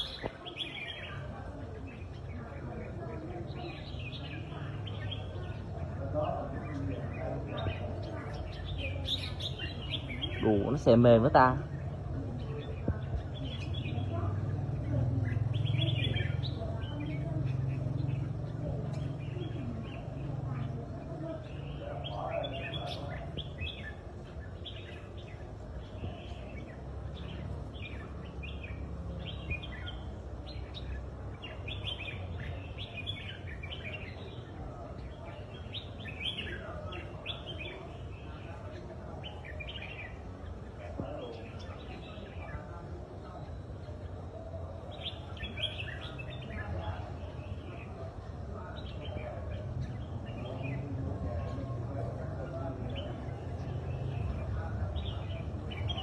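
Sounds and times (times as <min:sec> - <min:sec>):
bird singing high chirps: 0:00.0 - 0:56.0.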